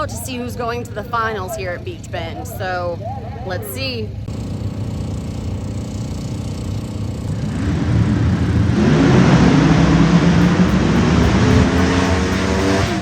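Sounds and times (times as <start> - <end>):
drag race car engines: 0.0 - 13.0.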